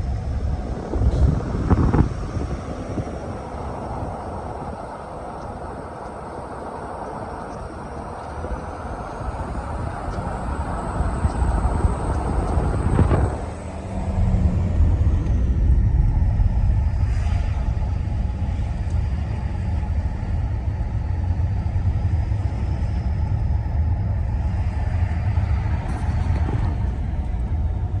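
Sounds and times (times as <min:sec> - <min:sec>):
diesel engine and road rumble: 0:00.0 - 0:28.0.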